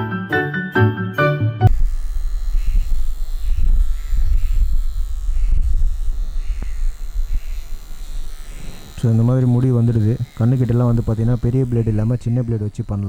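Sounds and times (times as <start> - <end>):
pet hair trimmer running: 1.7 - 13.0.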